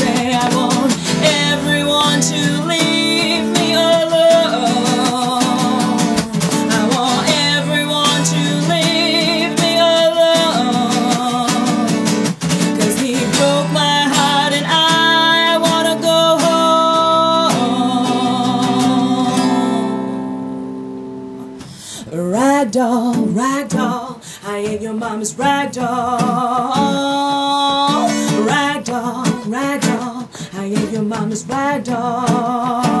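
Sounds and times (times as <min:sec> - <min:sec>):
person singing: 0:00.0 - 0:20.3, 0:22.0 - 0:33.0
acoustic guitar blues: 0:00.0 - 0:33.0.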